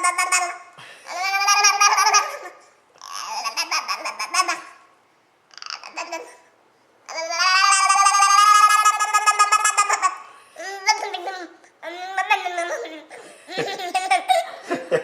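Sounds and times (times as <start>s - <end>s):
baby babbling: 0.0s - 4.8s, 5.5s - 6.4s, 7.1s - 14.3s.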